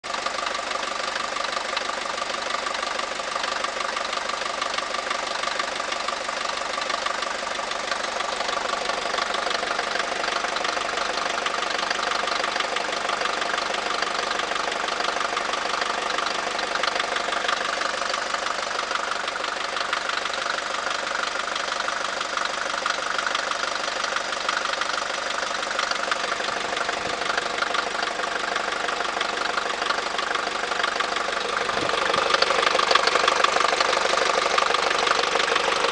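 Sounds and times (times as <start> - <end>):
diesel engine idling clatter: 0.0 - 35.9.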